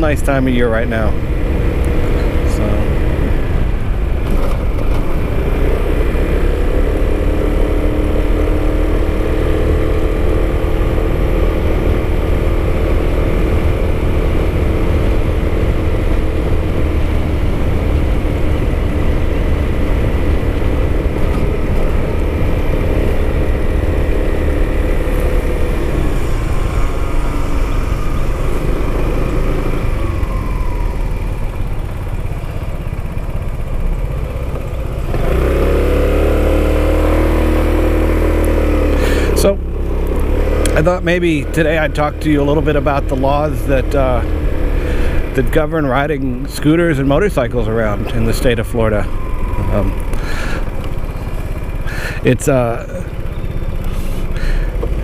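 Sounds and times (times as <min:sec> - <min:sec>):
scooter engine running: 0:00.0 - 0:55.0.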